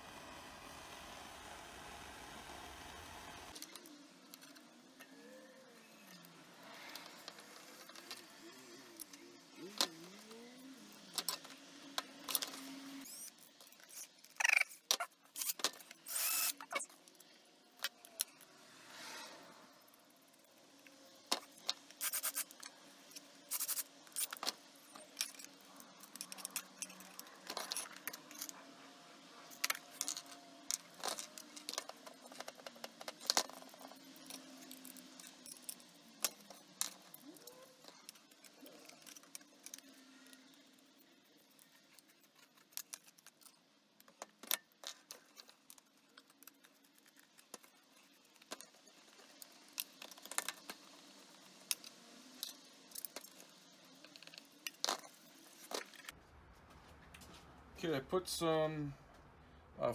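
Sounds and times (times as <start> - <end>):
screws and plastic parts clattering: 3.5 - 18.6, 19.7 - 56.1.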